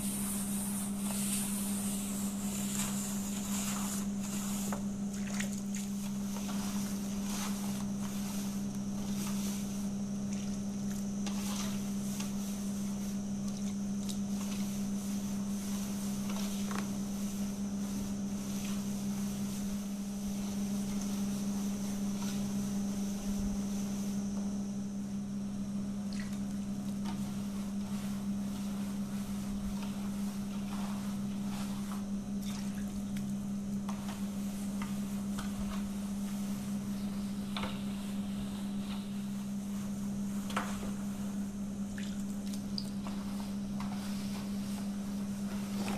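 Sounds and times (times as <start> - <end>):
hands rubbing dough in a basin: 0.0 - 45.9
steady low hum: 0.0 - 45.9.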